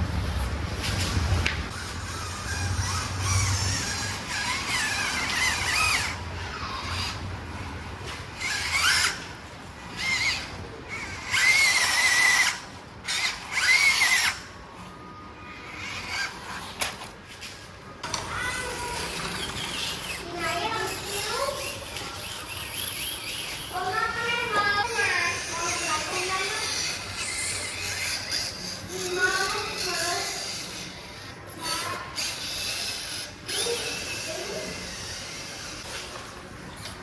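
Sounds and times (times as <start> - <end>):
small electric motors whining: 0.4 - 37.0.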